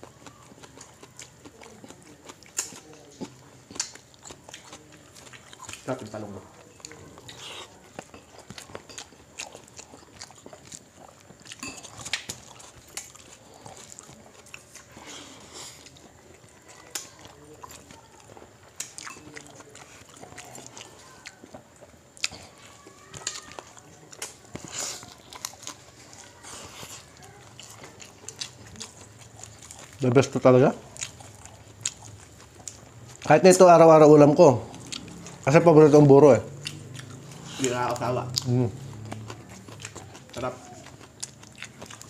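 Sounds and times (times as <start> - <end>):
people chewing and lip-smacking: 0.0 - 42.0.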